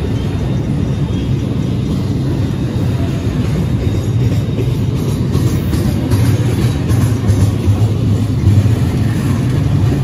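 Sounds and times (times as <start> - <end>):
freight train rolling past: 0.0 - 10.0.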